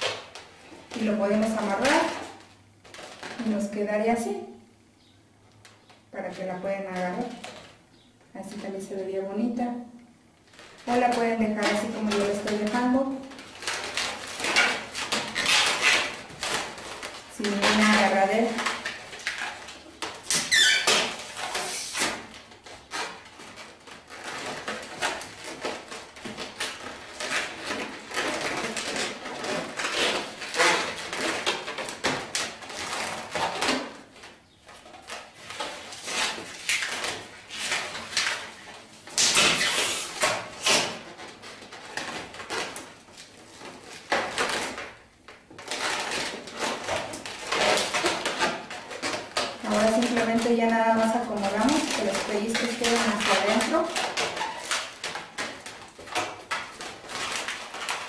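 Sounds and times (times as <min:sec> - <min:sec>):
balloons squeaking and rubbing: 0:00.0 - 0:04.2, 0:10.4 - 0:58.0.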